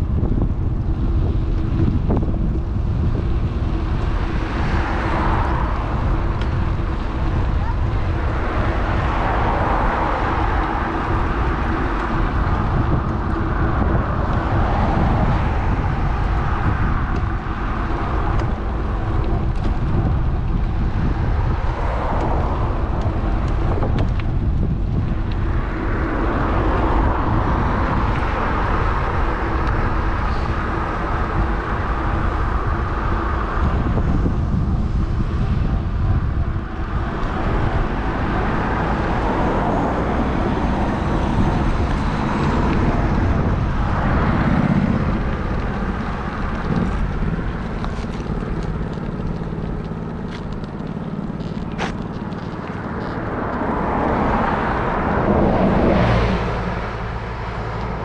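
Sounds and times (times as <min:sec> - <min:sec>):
steady low hum: 0:00.0 - 0:54.2
passing traffic: 0:00.0 - 0:58.0
wind noise: 0:00.0 - 0:58.0.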